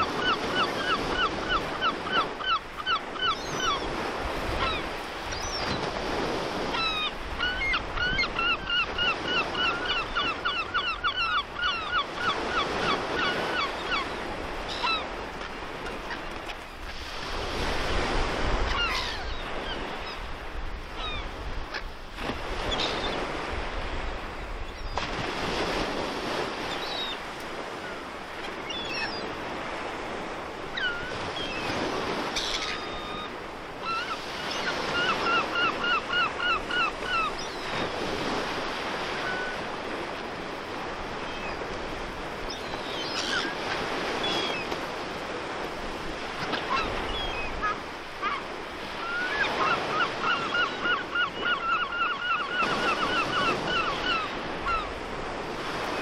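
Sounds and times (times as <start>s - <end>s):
birds calling: 0.0s - 5.8s, 6.6s - 16.7s, 18.6s - 21.8s, 26.2s - 29.9s, 30.7s - 56.0s
sea surf: 0.0s - 56.0s
wind: 0.0s - 56.0s.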